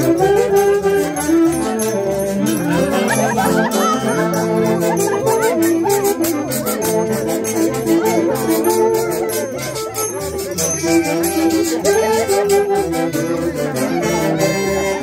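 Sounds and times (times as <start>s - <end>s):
folk dance music: 0.0s - 15.0s
quick steady percussion beat: 0.0s - 15.0s.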